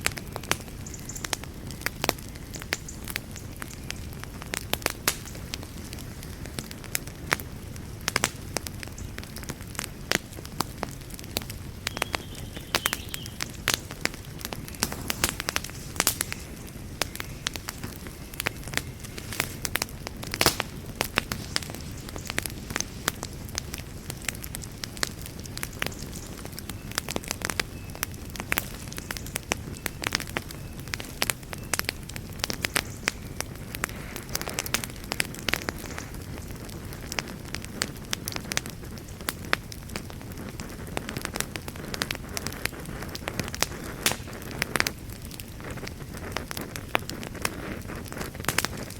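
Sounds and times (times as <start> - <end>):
low steady fire rumble: 0.0 - 48.9
wood fire crackling and popping: 0.0 - 48.9.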